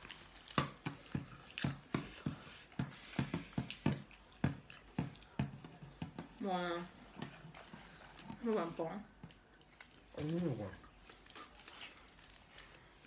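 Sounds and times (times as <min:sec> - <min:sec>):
close-up chewing and mouth sounds: 0:00.0 - 0:13.0.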